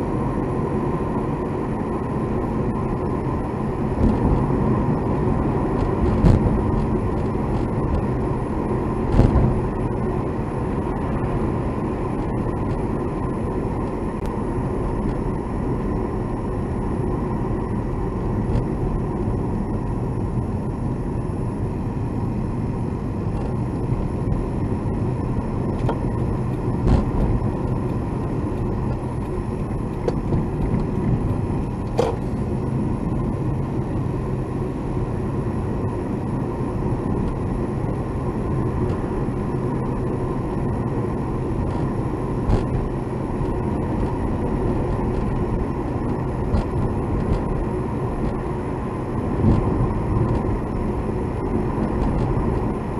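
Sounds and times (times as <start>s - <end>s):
road and engine rumble in car: 0.0s - 52.9s.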